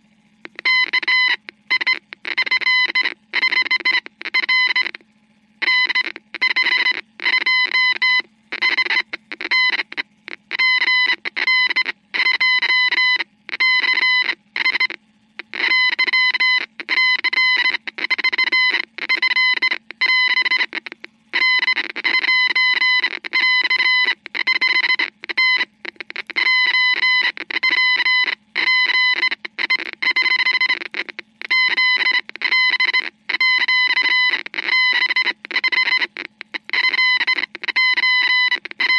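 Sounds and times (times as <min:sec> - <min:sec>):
steady low hum: 0:00.0 - 0:38.9
buzzy morse code beeping: 0:00.4 - 0:05.0, 0:05.6 - 0:38.9.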